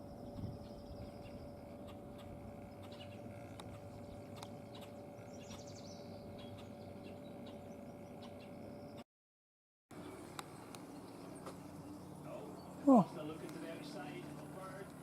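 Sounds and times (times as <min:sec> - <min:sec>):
faint birds chirping: 0:00.0 - 0:09.0, 0:09.9 - 0:15.0
steady faint hum: 0:00.0 - 0:09.0, 0:10.0 - 0:15.0.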